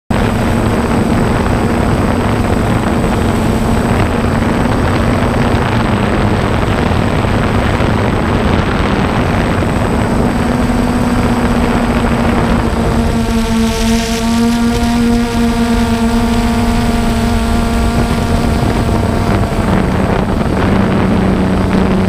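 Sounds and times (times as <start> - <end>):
drone motors and propellers: 0.1 - 22.0.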